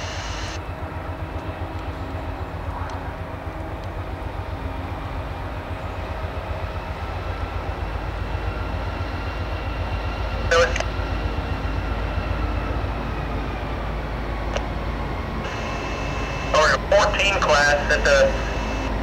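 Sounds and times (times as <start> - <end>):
freight locomotives rumbling: 0.0 - 19.0.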